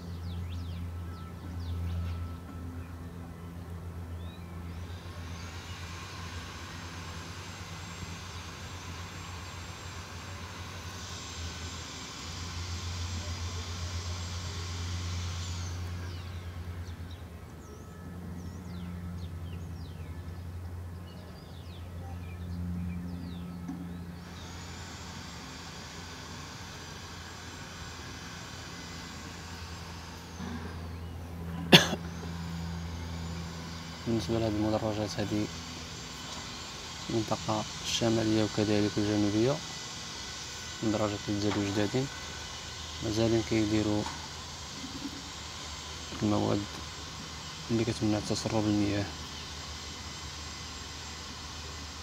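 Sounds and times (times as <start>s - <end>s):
diesel machinery engine drone: 0.0s - 52.0s.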